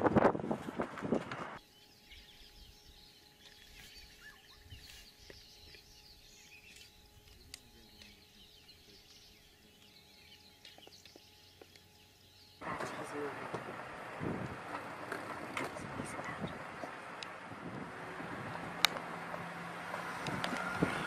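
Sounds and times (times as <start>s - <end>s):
small birds chirping: 1.3s - 21.0s
faint steady tones: 1.4s - 21.0s.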